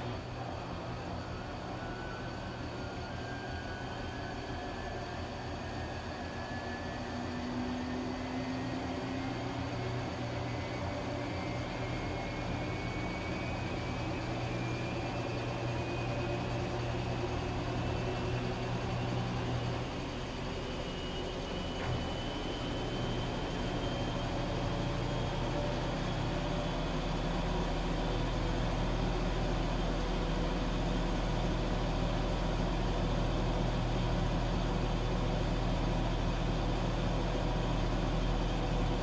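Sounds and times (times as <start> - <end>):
washing machine running: 0.0 - 39.0.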